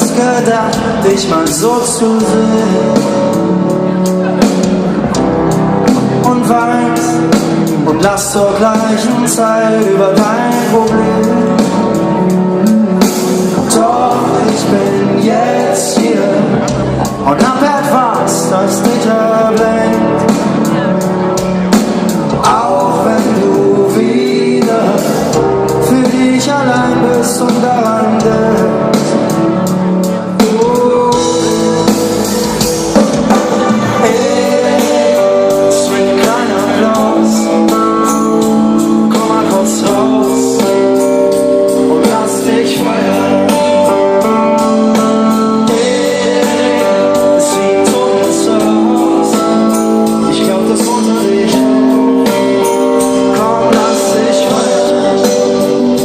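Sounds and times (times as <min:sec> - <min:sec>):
live pop band playing: 0:00.0 - 0:56.0
person singing: 0:00.0 - 0:56.0.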